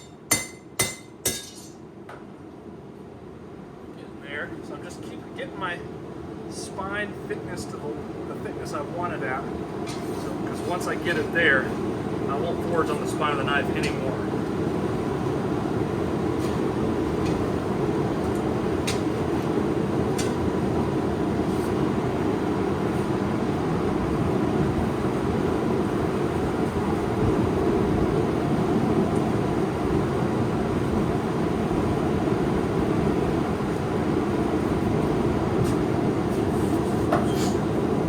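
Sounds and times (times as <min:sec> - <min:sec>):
forge burner roaring: 0:03.4 - 0:38.0.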